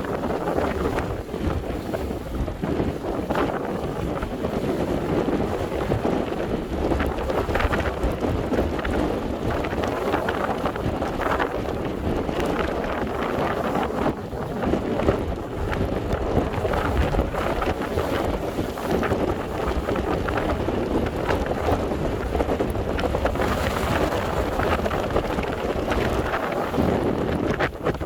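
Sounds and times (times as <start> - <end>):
waves breaking against breakwater: 0.0 - 28.0
wind buffeting microphone: 0.0 - 28.0.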